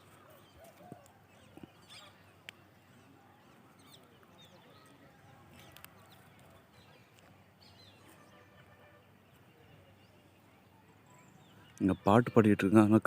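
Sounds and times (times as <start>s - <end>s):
distant bird chirps: 0.0s - 12.9s.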